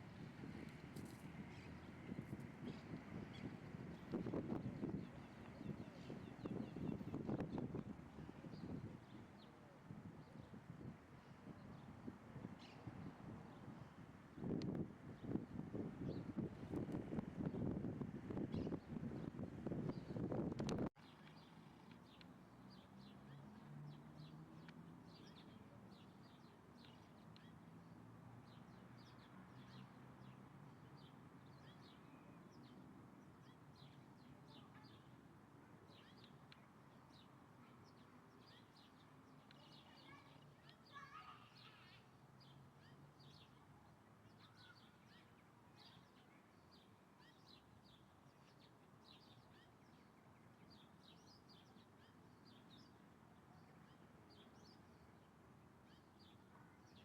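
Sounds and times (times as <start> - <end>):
small birds chirping: 0.6 - 9.6, 18.4 - 35.3, 35.9 - 57.0.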